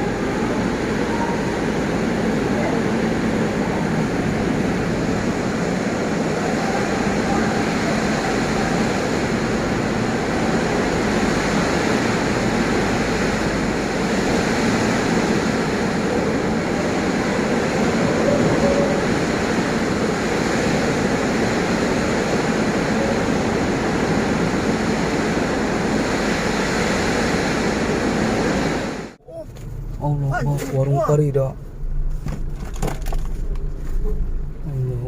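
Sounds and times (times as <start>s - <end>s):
strong wind blowing: 0.0s - 34.6s.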